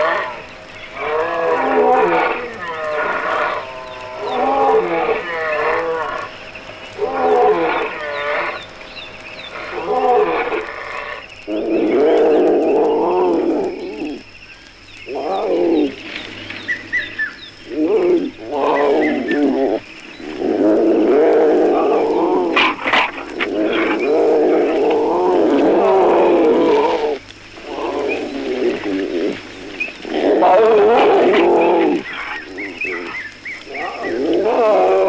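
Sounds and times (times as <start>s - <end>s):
lions roaring: 0.0s - 14.2s, 15.1s - 16.1s, 17.7s - 35.0s.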